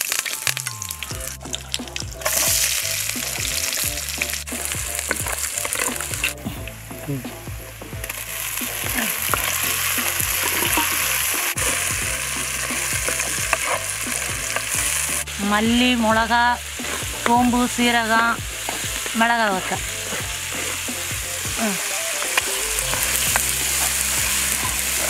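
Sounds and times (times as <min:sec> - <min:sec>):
oil crackling and spitting: 0:00.0 - 0:25.0
onions and tomatoes sizzling in oil: 0:00.0 - 0:25.0.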